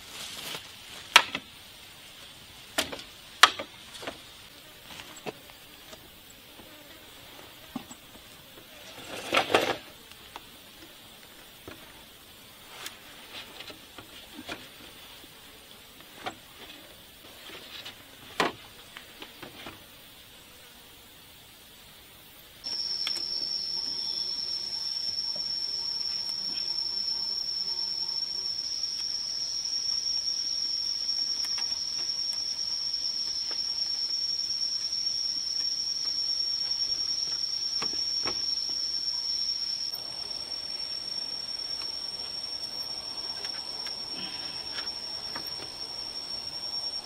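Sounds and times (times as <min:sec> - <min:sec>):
forest insects droning: 0:00.0 - 0:47.0.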